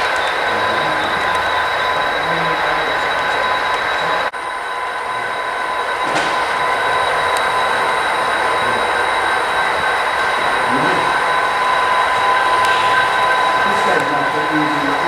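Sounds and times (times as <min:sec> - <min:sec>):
model train wheels rolling hum: 0:00.0 - 0:15.0
thin steady tones: 0:00.0 - 0:15.0.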